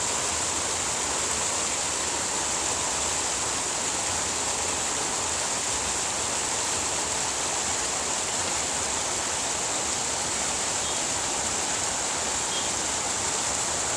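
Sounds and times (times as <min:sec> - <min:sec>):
running water flowing: 0:00.0 - 0:13.9.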